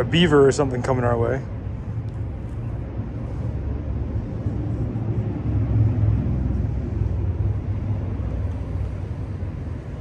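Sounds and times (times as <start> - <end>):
traffic rumble on bridge overhead: 0.0 - 10.0.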